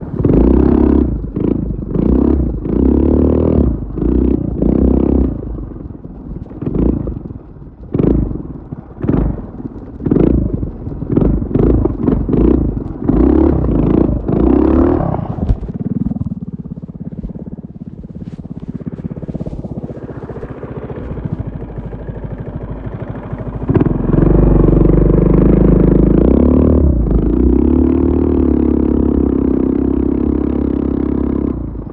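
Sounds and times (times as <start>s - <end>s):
minibike engine revving and idling: 0.0s - 31.9s.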